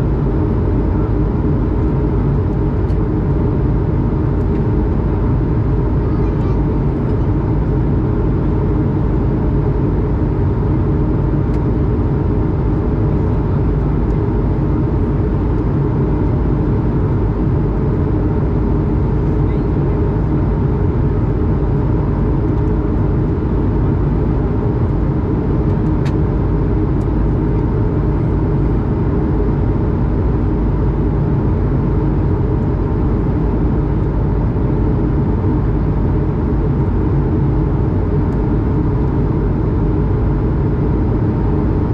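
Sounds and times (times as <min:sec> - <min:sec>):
aircraft cabin drone: 0:00.0 - 0:41.9.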